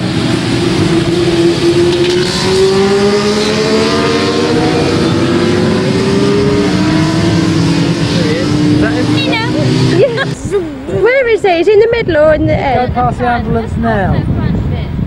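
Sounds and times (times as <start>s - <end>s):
racing motorcycles passing: 0.0s - 14.7s.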